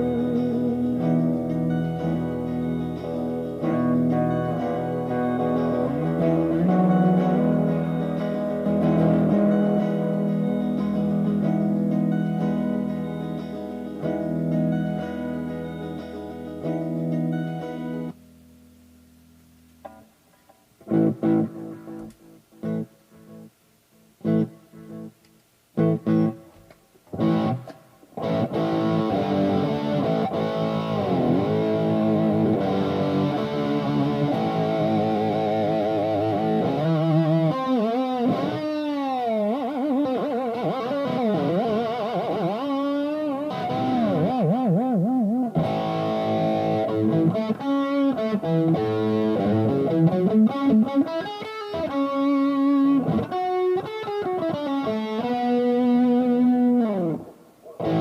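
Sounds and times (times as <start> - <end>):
electric guitar with vibrato: 0.0 - 25.2, 25.8 - 58.0.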